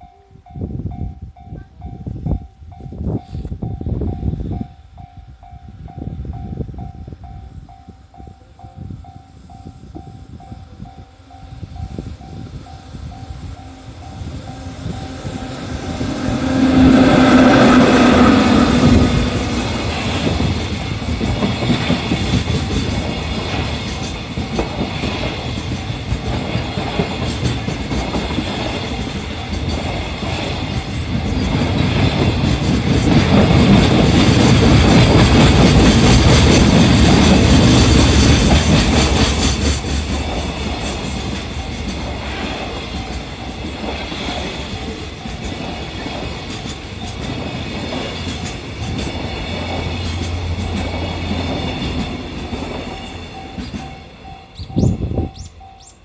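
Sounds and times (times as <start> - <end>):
train wheels rumbling and clattering: 0.7 - 56.0.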